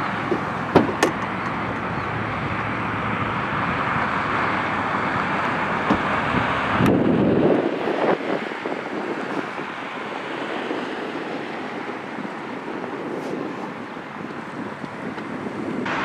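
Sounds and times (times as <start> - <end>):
jet airliner rolling on runway: 0.0 - 16.0
wind buffeting microphone: 0.0 - 16.0.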